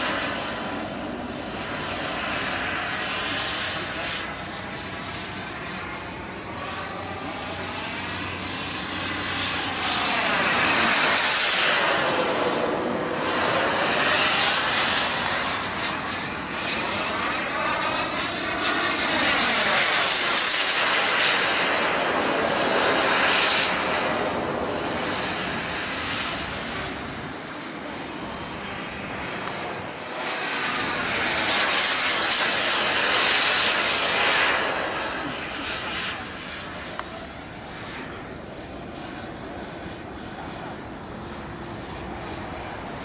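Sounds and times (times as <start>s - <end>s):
model jet turbine whine: 0.0s - 43.0s.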